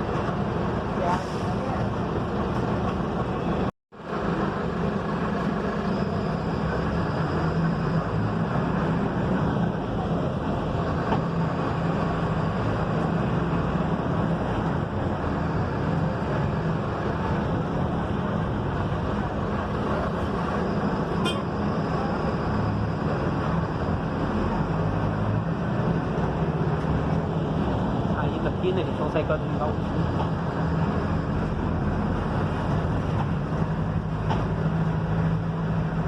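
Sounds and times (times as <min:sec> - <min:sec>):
bus diesel engine droning: 0:00.0 - 0:36.0.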